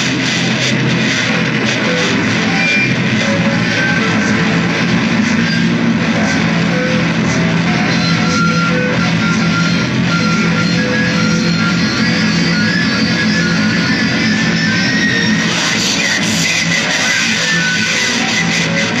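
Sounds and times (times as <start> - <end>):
long held guitar notes: 0.0 - 19.0
loud distorted guitar music: 0.0 - 19.0.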